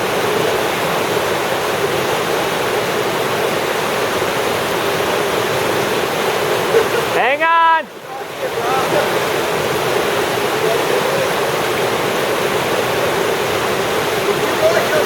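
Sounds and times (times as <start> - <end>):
water rushing over waterfalls: 0.0 - 15.0.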